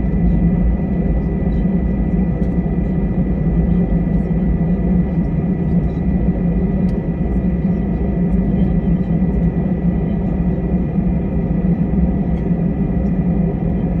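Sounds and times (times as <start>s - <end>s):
jet engines in cabin: 0.0s - 14.0s.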